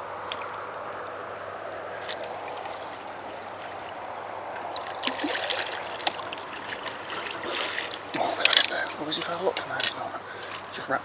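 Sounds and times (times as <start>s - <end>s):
fish splashing: 0.0s - 11.0s
water trickling and splashing: 0.0s - 11.0s.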